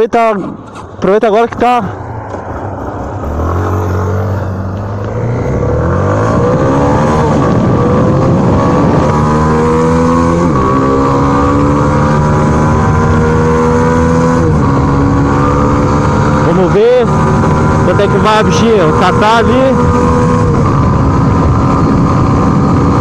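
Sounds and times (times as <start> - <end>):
wind rush: 0.8 - 23.0
motorcycle engine revving: 1.6 - 23.0.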